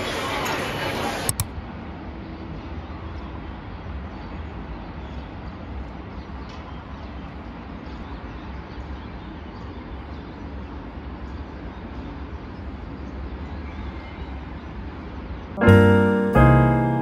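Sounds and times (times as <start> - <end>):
distant city traffic hum: 0.0 - 17.0.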